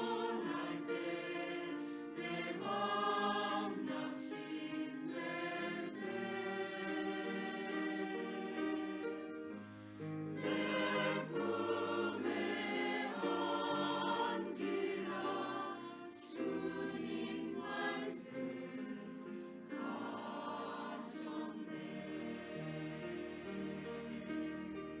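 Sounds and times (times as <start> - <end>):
church choir singing: 0.0 - 25.0.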